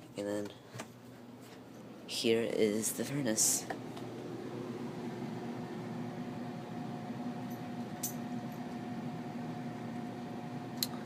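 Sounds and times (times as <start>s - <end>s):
furnace blower humming: 0.0s - 11.0s.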